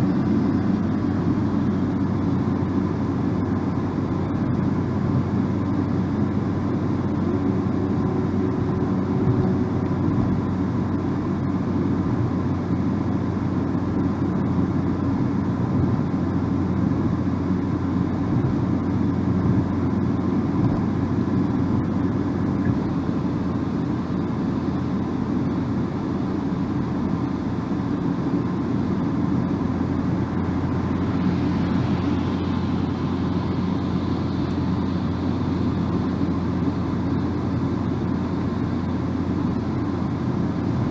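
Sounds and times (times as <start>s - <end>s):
car tyre and road noise: 0.0s - 40.9s
engine hum: 0.0s - 40.9s.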